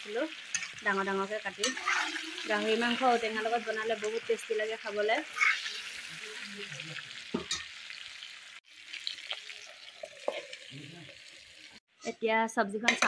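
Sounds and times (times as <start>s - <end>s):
food sizzling in hot oil: 0.0s - 12.2s.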